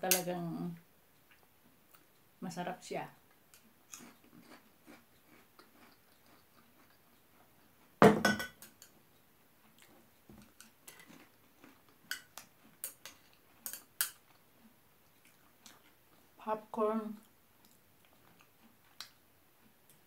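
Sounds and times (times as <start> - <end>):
quiet chewing: 0.7 - 2.4, 3.1 - 8.0, 8.6 - 16.4, 17.1 - 20.0.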